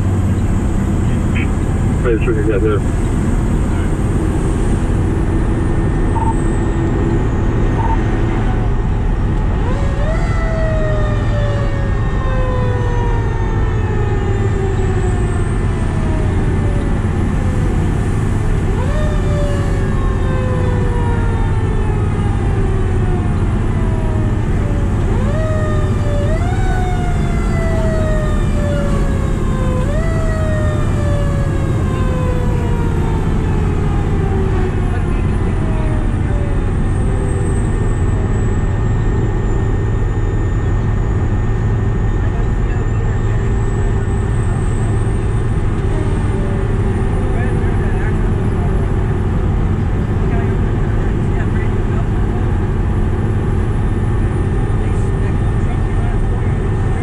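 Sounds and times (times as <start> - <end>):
fire truck siren: 0.0 - 57.0
truck engine and road noise: 0.0 - 57.0.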